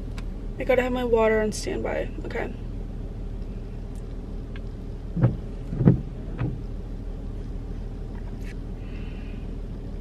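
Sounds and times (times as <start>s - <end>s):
car engine idling inside cabin: 0.0s - 10.0s.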